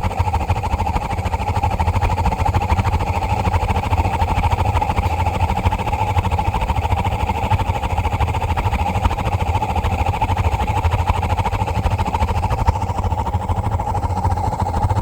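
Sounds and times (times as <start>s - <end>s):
gas burner fluttering rumble: 0.0s - 15.0s.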